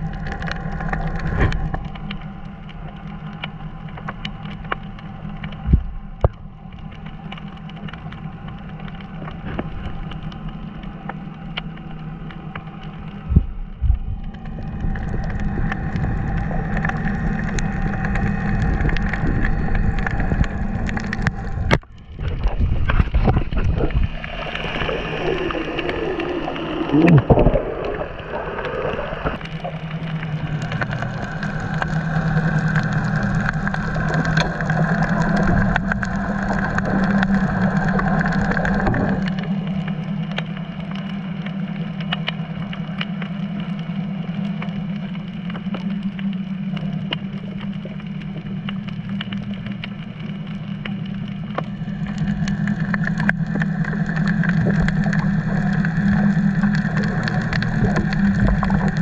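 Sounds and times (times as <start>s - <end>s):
faint clicks: 0.0s - 59.0s
underwater boat engine drone: 0.0s - 59.0s.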